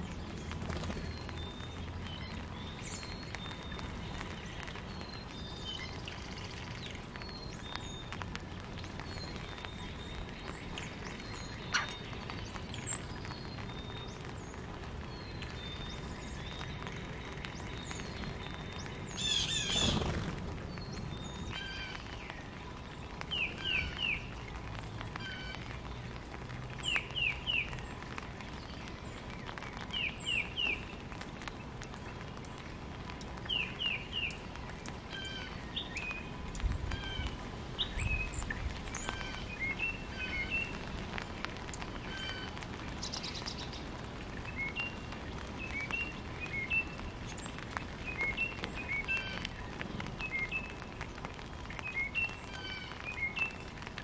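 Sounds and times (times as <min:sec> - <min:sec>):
birds calling: 0:00.0 - 0:25.8, 0:33.4 - 0:53.9.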